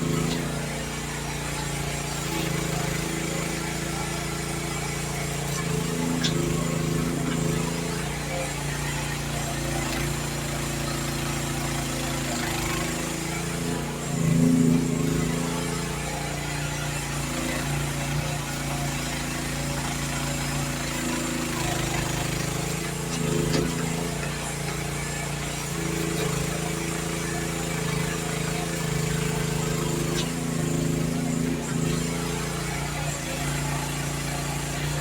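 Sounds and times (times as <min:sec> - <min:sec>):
mini excavator engine running: 0:00.0 - 0:35.0.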